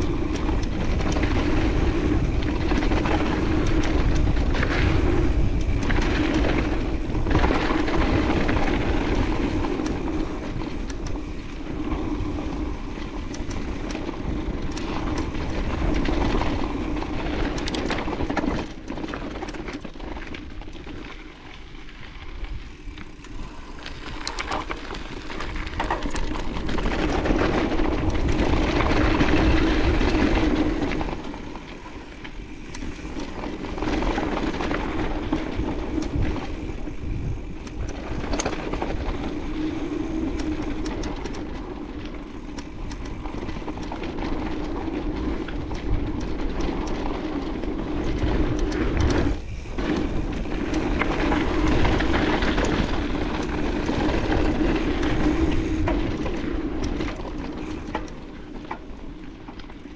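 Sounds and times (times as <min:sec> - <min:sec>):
bike clicks and rattles: 0:00.0 - 0:59.9
bike tyres rolling over dirt: 0:00.0 - 0:59.9
wind on microphone: 0:00.0 - 0:59.9.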